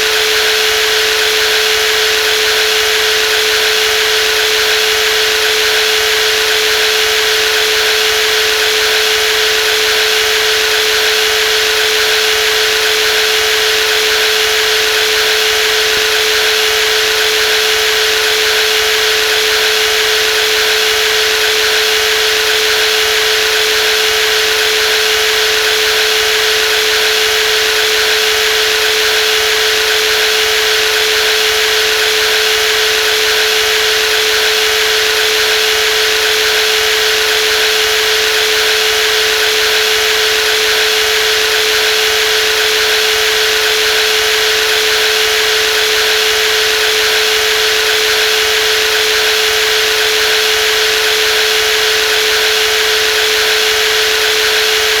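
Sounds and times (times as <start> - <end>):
jigsaw motor whining: 0.0 - 55.0.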